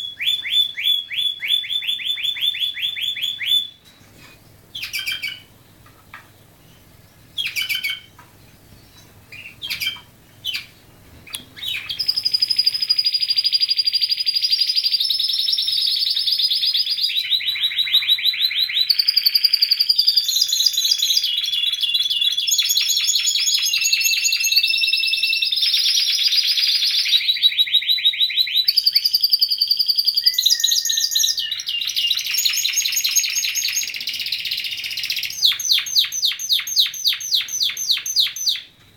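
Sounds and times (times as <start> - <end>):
canary singing: 0.0 - 3.9, 4.5 - 38.8.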